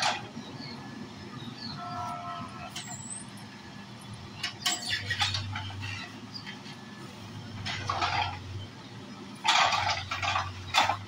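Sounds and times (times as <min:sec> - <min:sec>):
diesel engine hum: 0:00.0 - 0:11.0.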